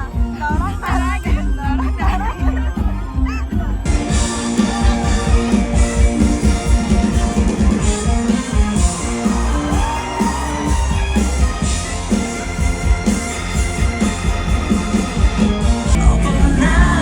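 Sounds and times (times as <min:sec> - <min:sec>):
rock band music: 0:00.0 - 0:17.0.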